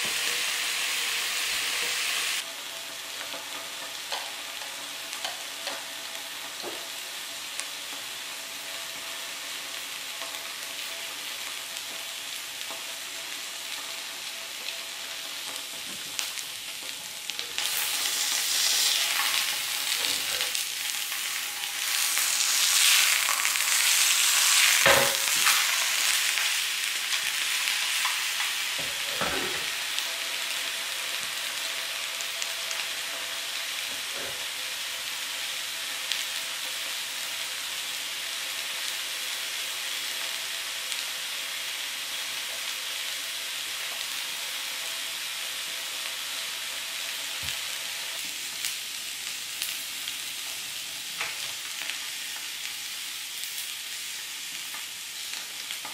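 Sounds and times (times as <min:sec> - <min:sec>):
omelette sizzling in a pan: 0:00.0 - 0:55.9.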